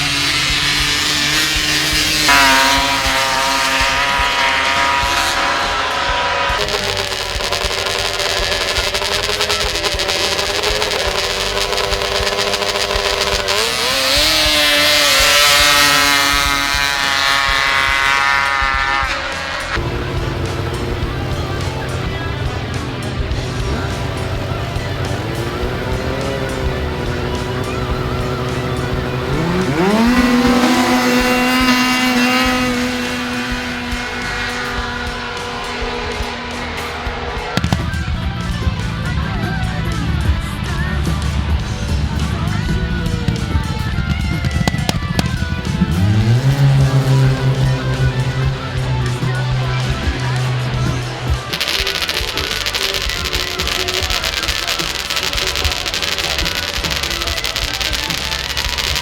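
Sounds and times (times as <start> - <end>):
snowmobile engine high revs: 0.0 - 59.0.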